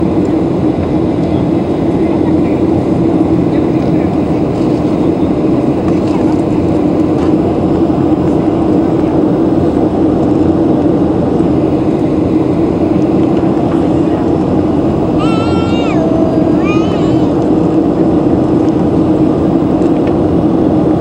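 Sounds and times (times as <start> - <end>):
airliner cabin engine drone: 0.0 - 21.0.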